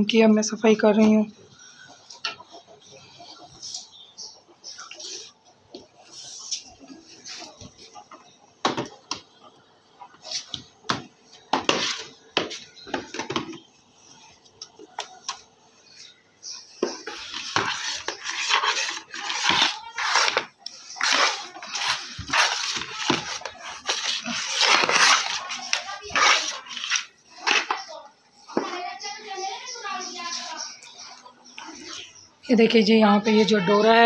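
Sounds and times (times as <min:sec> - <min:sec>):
broom sweeping tiled floor: 0:00.9 - 0:09.2, 0:10.0 - 0:34.0.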